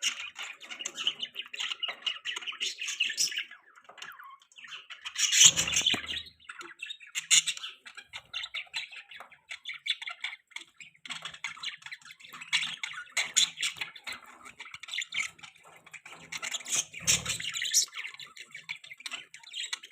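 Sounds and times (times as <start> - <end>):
budgerigars chirping: 0.0 - 19.9.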